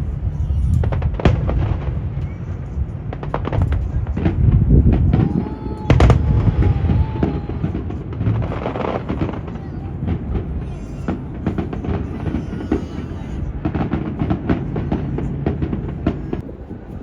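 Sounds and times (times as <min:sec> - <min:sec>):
fireworks popping and crackling: 0:00.0 - 0:17.0
wind rumble on microphone: 0:00.0 - 0:17.0.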